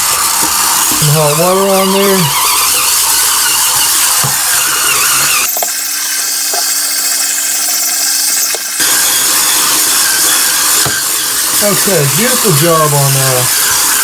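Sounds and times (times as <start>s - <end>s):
spin scrubber motor hissing: 0.0s - 14.0s
steady whine: 0.0s - 14.0s.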